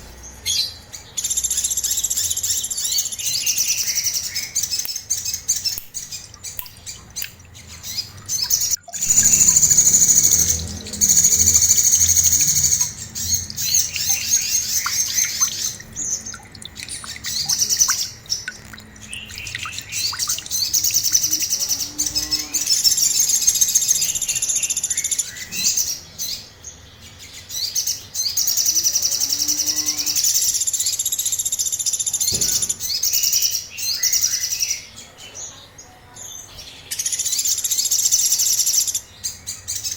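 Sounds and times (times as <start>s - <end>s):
bird twittering trills: 0.0s - 35.6s.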